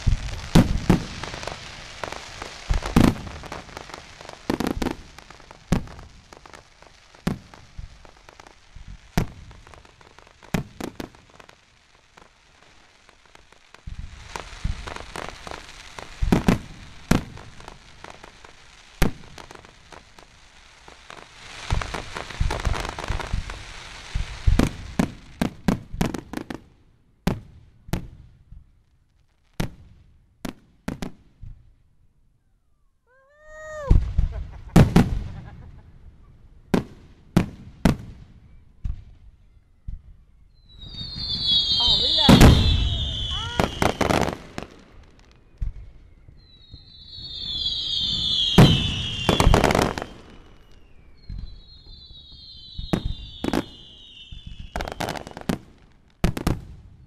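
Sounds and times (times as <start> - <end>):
firework crackle: 0.0 - 31.6, 33.1 - 57.0.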